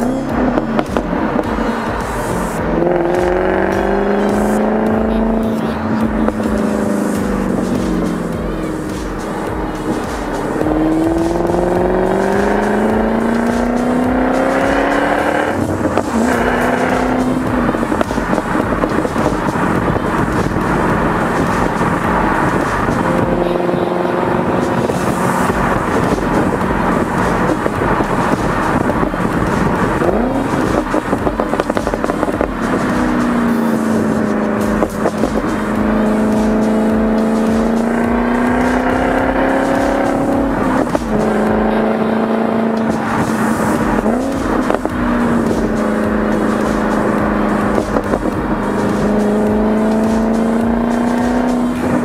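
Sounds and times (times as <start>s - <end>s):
car engine under load: 0.0s - 52.0s.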